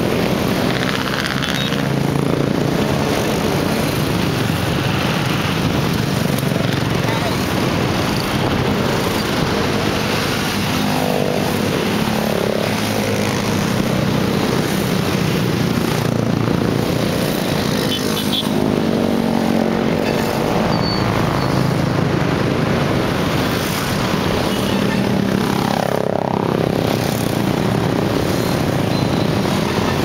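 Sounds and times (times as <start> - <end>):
motorcycles and scooters passing: 0.0 - 30.0.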